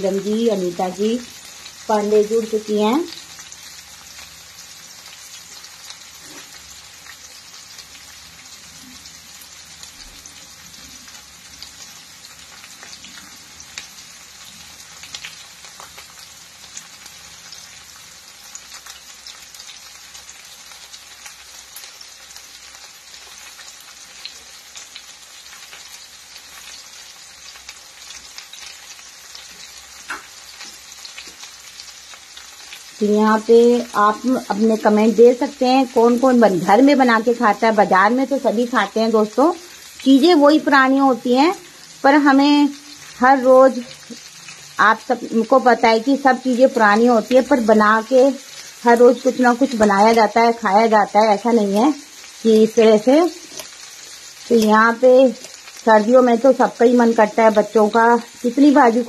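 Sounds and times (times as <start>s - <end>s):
vegetables sizzling in hot oil: 0.0s - 59.0s.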